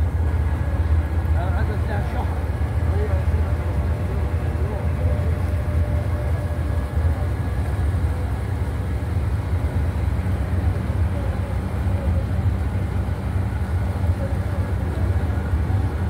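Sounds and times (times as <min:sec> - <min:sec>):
motorboat engine rumbling: 0:00.0 - 0:16.0
water rushing: 0:00.0 - 0:16.0
wind: 0:00.0 - 0:16.0.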